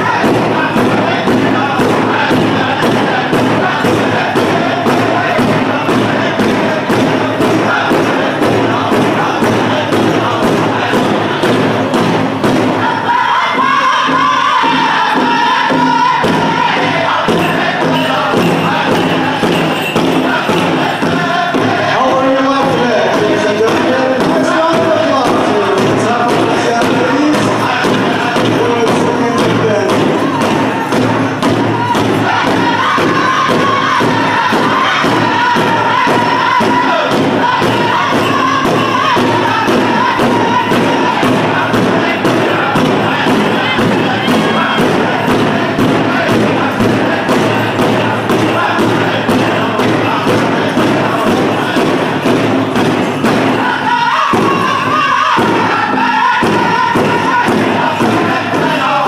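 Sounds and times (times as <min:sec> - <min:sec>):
large drum beating: 0:00.0 - 0:59.0
singers' high voices: 0:00.0 - 0:59.0.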